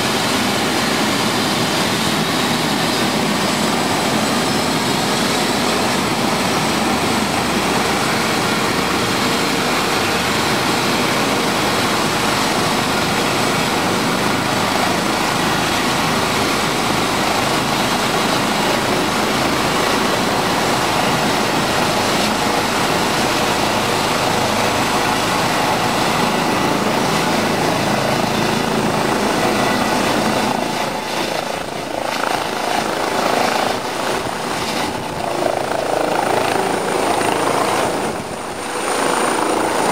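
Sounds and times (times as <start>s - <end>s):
helicopter turbines whining: 0.0s - 39.9s.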